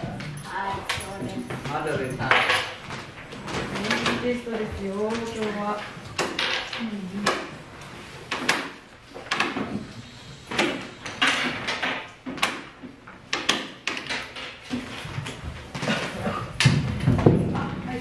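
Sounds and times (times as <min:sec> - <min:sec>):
knocks and clatters of desks: 0:00.0 - 0:18.0.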